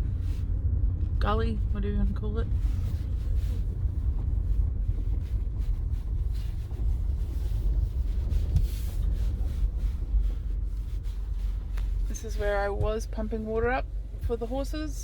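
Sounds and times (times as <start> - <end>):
car driving rumble inside cabin: 0.0 - 15.0.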